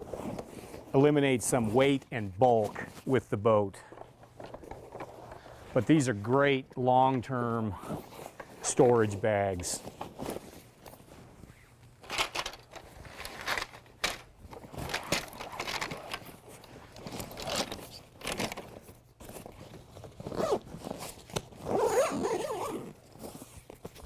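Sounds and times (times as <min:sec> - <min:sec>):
parts rustling and scraping in bag: 0:00.0 - 0:06.6, 0:07.2 - 0:24.0.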